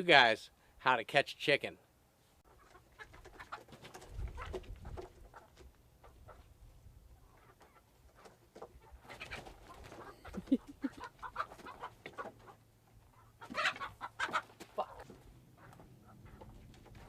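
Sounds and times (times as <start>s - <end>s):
chicken squawking and clucking: 2.4s - 17.0s.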